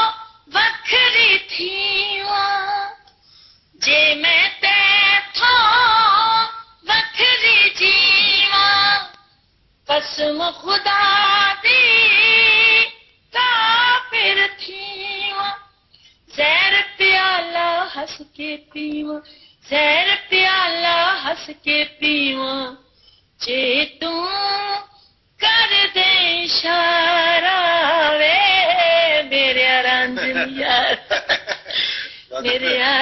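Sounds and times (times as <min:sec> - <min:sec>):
woman singing unaccompanied: 0:00.0 - 0:03.1, 0:03.8 - 0:09.2, 0:09.9 - 0:15.7, 0:16.3 - 0:31.2, 0:32.4 - 0:33.0.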